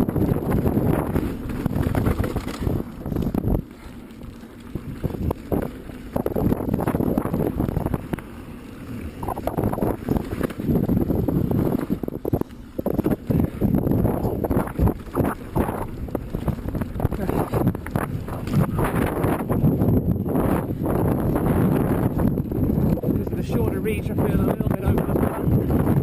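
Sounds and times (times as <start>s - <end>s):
bike tyres on dirt: 0.0s - 26.0s
wind buffeting microphone: 0.0s - 26.0s.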